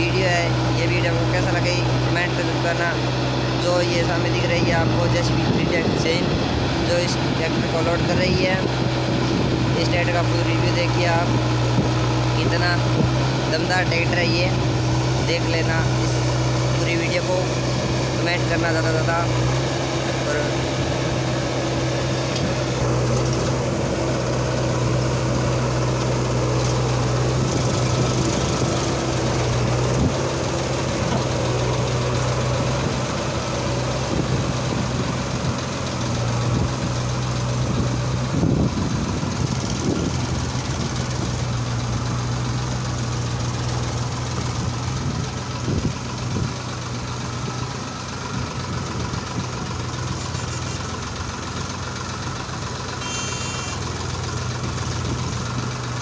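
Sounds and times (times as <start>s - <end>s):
backhoe loader engine: 0.0s - 56.0s
tractor diesel engine running: 0.0s - 56.0s.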